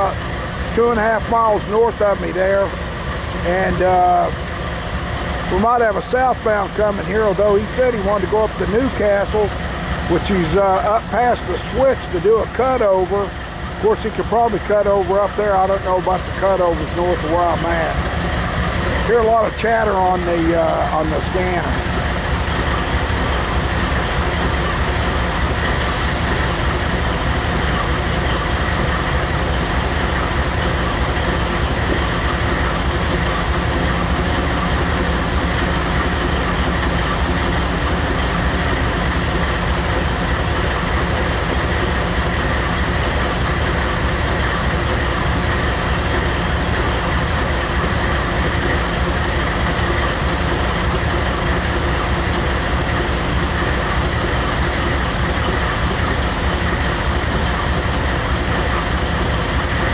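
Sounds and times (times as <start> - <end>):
diesel locomotive idling: 0.0 - 59.9.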